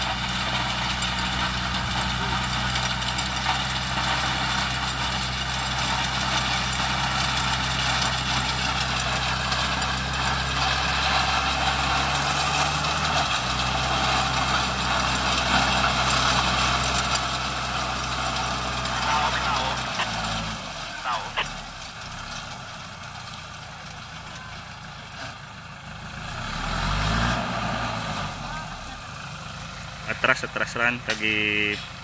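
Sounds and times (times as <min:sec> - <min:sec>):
diesel harvester engine running: 0:00.0 - 0:32.0.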